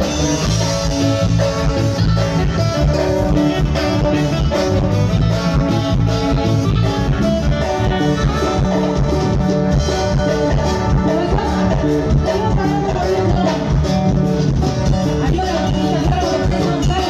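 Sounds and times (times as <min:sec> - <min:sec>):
live band music through a pa: 0:00.0 - 0:17.0.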